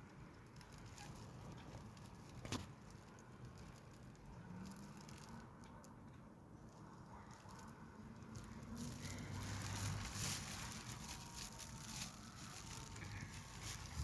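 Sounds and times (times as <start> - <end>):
light crackles: 0.0 - 14.0.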